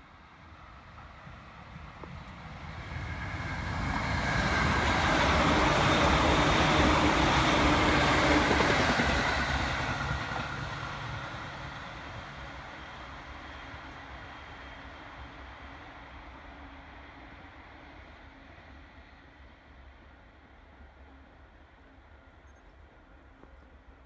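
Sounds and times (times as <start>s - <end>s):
electric train passing: 0.0s - 22.2s
train whine: 0.0s - 24.0s.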